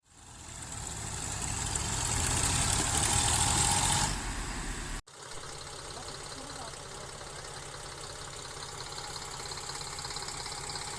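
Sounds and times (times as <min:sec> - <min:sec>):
tractor diesel engine running: 0:00.1 - 0:10.9.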